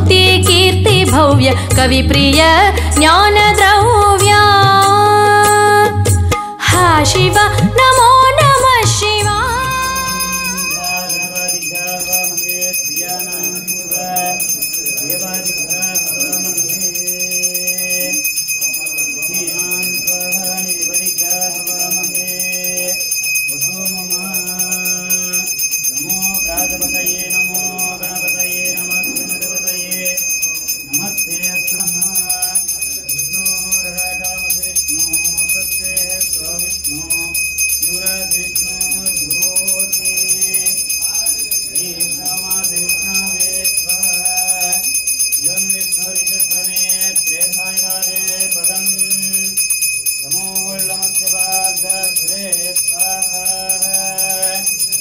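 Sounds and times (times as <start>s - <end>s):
hand bell ringing: 7.2s - 55.0s.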